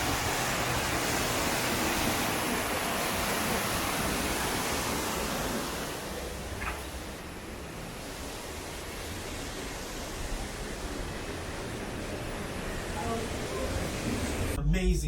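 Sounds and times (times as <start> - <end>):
steady rushing noise: 0.0 - 14.6.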